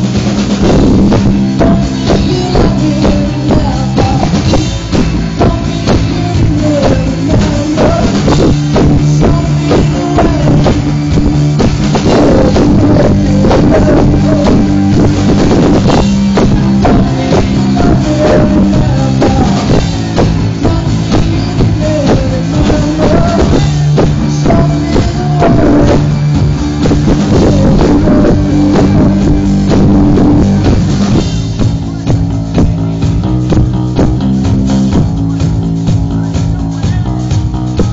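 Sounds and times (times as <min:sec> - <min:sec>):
bass guitar: 0:00.0 - 0:37.9
drum kit: 0:00.0 - 0:37.9
electric guitar: 0:00.0 - 0:37.9.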